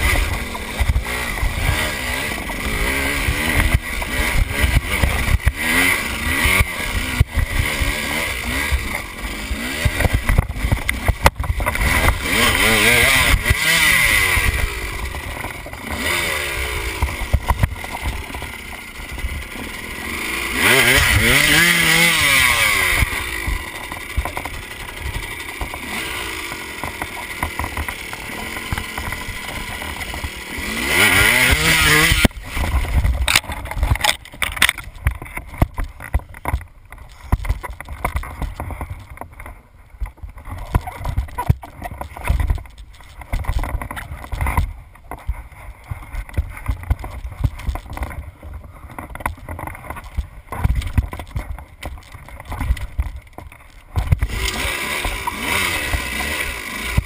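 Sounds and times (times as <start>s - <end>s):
motorcycle engine revving: 0.0s - 57.0s
motorcycle striking rocks: 0.0s - 57.0s.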